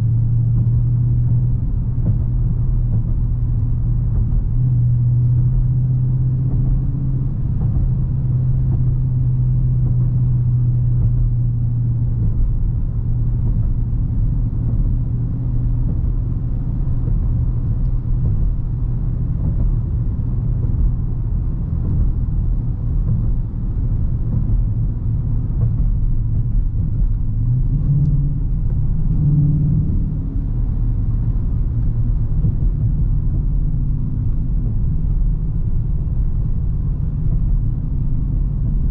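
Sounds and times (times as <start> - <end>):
car engine drone: 0.0 - 38.9
road and tyre noise: 0.0 - 38.9.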